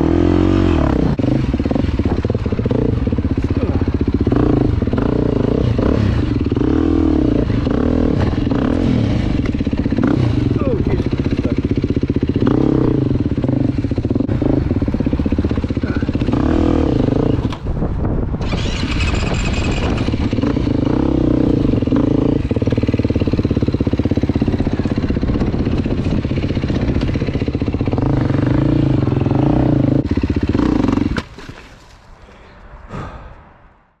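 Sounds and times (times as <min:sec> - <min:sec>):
dirt bike engine revving: 0:00.0 - 0:17.6, 0:18.4 - 0:31.3.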